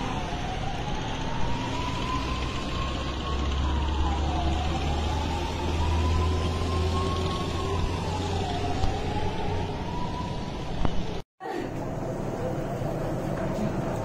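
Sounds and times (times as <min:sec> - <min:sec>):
siren wailing: 0:00.0 - 0:11.2.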